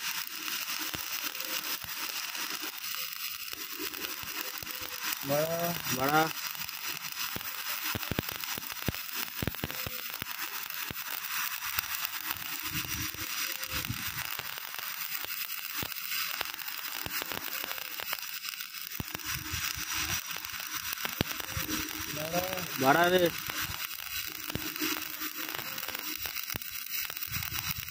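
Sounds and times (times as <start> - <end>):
welding arc hissing and popping: 0.0 - 27.9.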